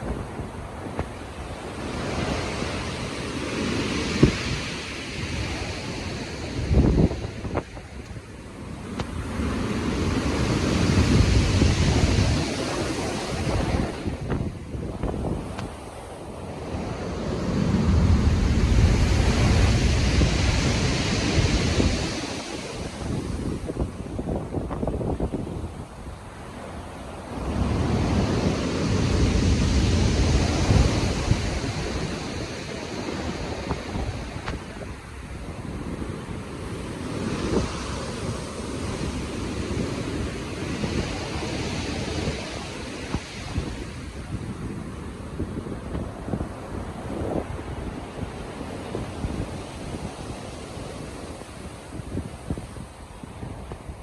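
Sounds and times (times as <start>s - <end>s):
ocean wave surging: 0.0s - 54.0s
wind: 0.0s - 54.0s.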